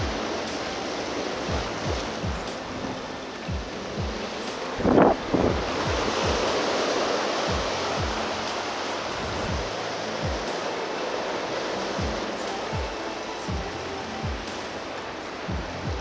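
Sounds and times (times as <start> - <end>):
music with deep beat: 0.0 - 16.0
surf washing over rocks: 0.0 - 16.0.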